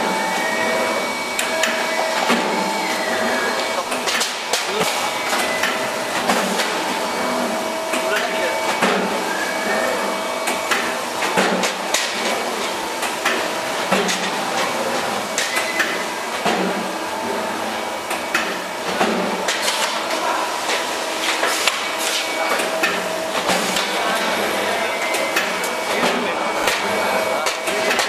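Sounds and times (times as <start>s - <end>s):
steady machinery drone: 0.0s - 28.0s.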